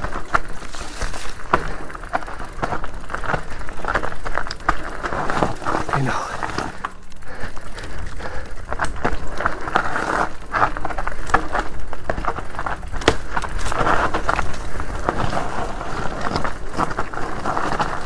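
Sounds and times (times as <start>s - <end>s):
bike knocking and clattering: 0.0s - 18.0s
tyres rushing on dirt and rock: 0.0s - 18.0s.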